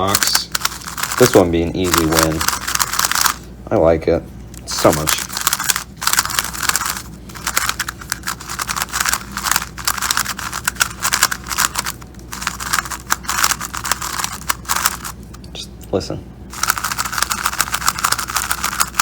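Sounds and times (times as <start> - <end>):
puzzle cube clicking and swishing: 0.0 - 3.4, 4.8 - 15.2, 16.5 - 19.0.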